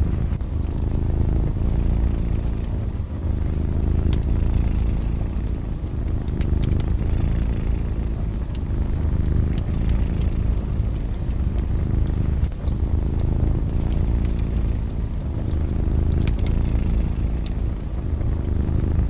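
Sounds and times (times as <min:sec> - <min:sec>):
cat purring: 0:00.0 - 0:19.0
wood fire crackling: 0:00.0 - 0:19.0.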